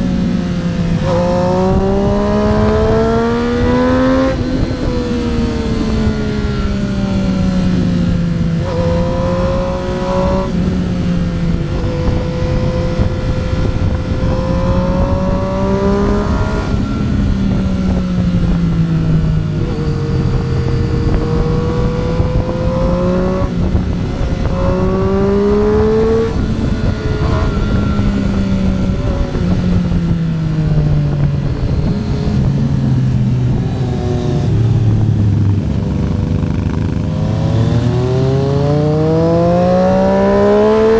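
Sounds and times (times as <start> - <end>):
gear changes: 0.0 - 40.9
motorcycle engine revving: 0.0 - 40.9
wind rush: 0.0 - 40.9.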